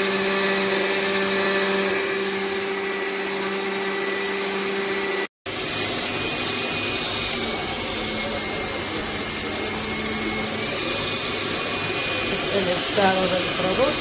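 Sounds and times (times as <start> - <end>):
juicer motor whirring hum: 0.0 - 14.0.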